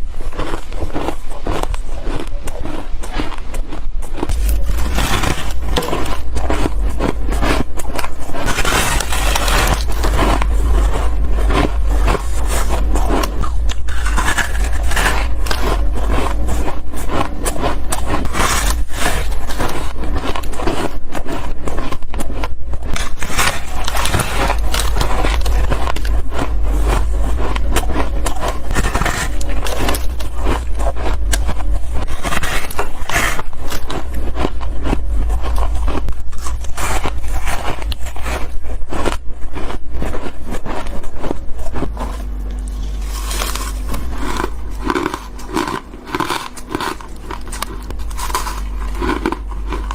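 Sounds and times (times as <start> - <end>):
steady low hum: 0.0 - 49.9
crunchy bites of frost: 0.3 - 49.9.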